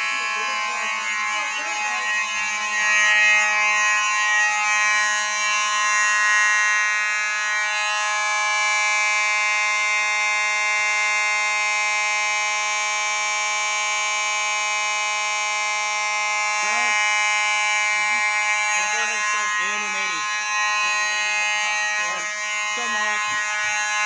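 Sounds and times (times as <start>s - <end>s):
fire alarm horn steady tone: 0.0s - 24.0s.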